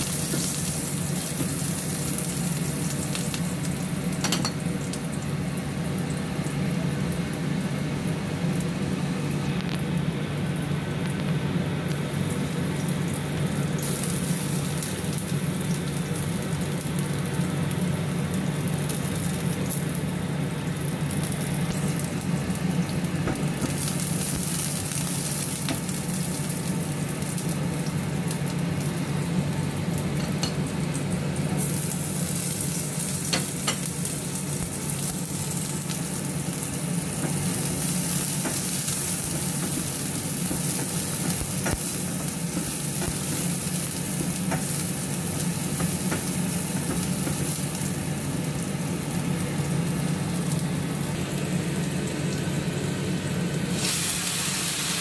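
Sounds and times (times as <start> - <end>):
food sizzling in hot oil: 0.0 - 11.1, 11.8 - 55.0.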